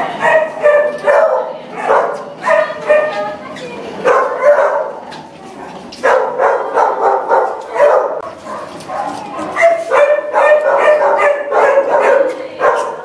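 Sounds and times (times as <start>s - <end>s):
dogs barking: 0.0s - 3.4s, 4.0s - 5.2s, 6.0s - 13.0s.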